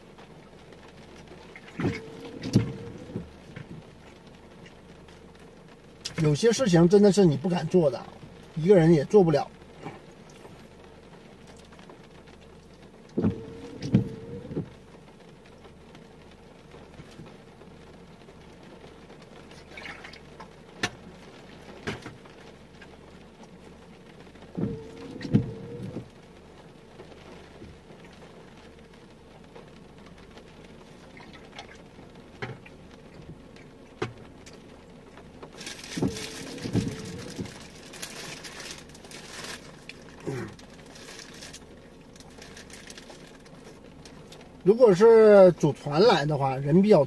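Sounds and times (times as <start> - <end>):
faint hiss: 0.0 - 47.0
raindrops pattering: 0.0 - 47.0.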